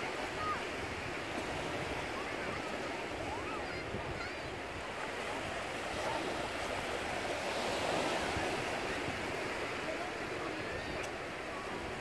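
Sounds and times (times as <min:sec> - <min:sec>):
small waves washing on beach: 0:00.0 - 0:12.0.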